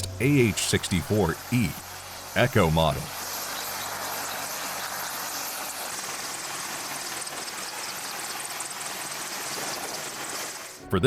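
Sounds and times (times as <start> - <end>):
helicopter rotor and turbine: 0.0 - 10.8.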